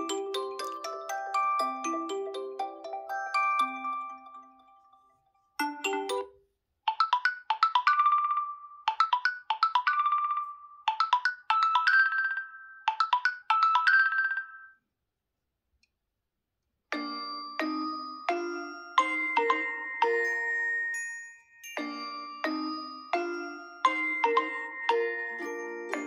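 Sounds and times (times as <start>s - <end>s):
chime-like ringtone melody: 0.0s - 14.8s, 16.9s - 26.0s
phone ringtone melody: 0.0s - 14.8s, 17.0s - 26.0s.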